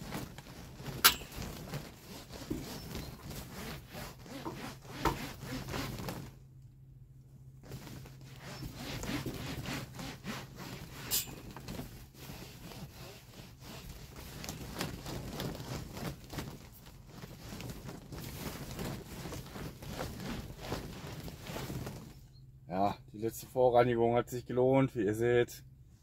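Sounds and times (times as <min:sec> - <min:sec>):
cloth rubbing on plastic film: 0:00.0 - 0:06.4, 0:07.6 - 0:22.3.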